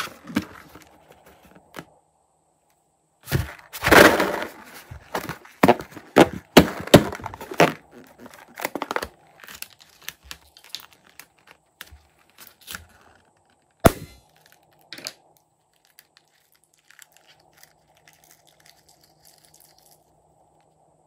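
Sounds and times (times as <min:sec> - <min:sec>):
balloon skin crinkling: 0:03.2 - 0:20.1.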